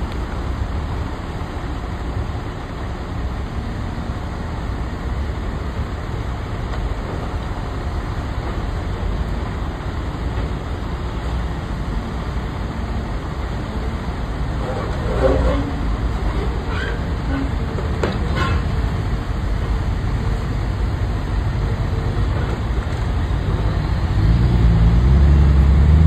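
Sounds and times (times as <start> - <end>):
diesel engine rumbling: 0.0 - 26.0.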